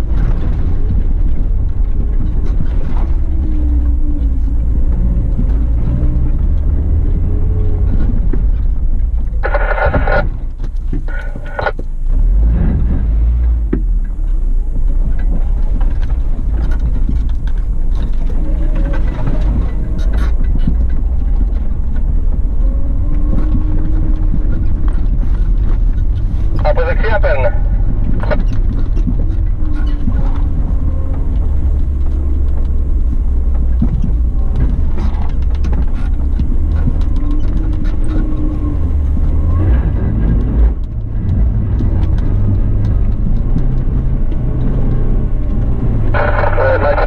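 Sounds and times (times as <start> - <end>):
car engine pulling: 0.0 - 47.0
low rumble of car body: 0.0 - 47.0.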